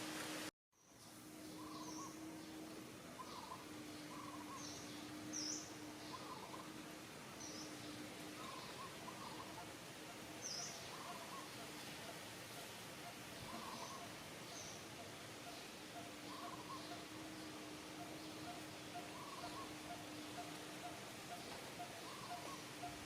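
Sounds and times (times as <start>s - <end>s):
outdoor background hiss: 0.0s - 23.0s
small birds chirping: 0.8s - 23.0s.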